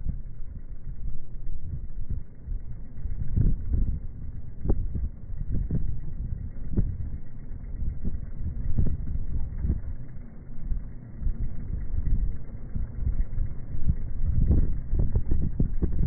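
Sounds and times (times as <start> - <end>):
wind and road noise rumble: 0.0 - 16.0
wind buffeting thumps: 1.6 - 9.9, 11.2 - 16.0.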